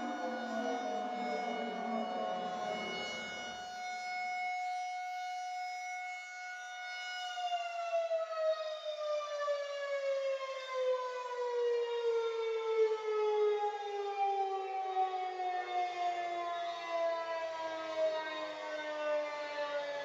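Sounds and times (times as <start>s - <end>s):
civil defense siren: 0.0s - 20.0s.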